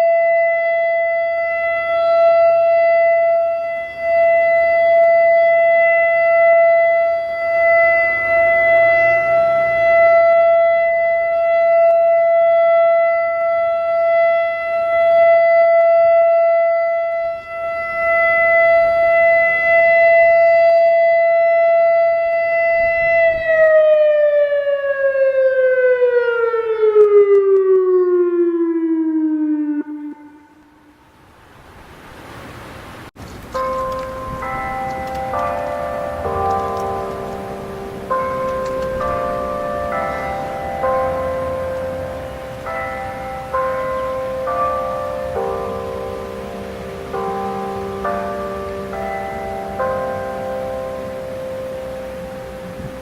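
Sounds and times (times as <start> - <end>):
tornado siren winding down: 0.0 - 31.6, 33.5 - 53.0.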